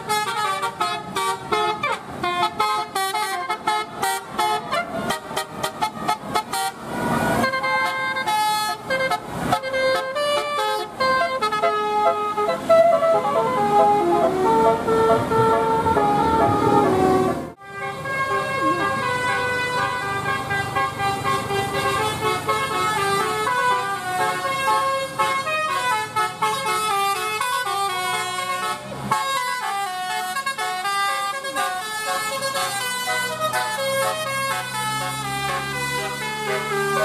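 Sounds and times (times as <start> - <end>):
musical air horn playing: 0.0 - 37.0.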